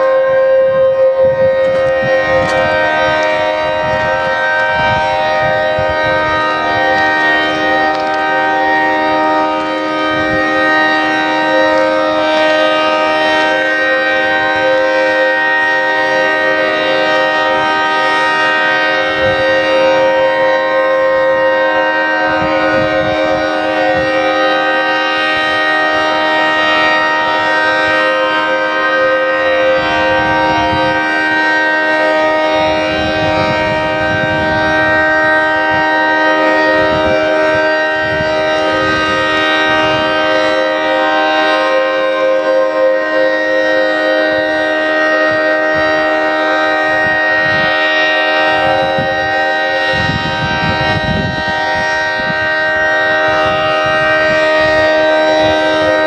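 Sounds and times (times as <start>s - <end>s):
steady warning siren: 0.0s - 56.0s.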